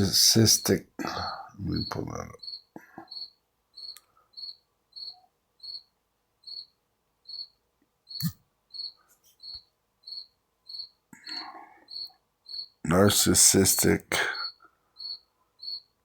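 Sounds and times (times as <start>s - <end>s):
cricket chirping: 0.0s - 12.8s, 14.2s - 16.0s.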